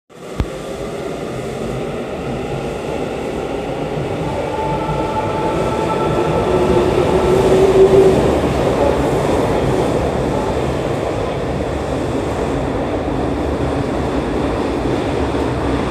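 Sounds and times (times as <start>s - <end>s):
train rumble: 0.2s - 15.9s.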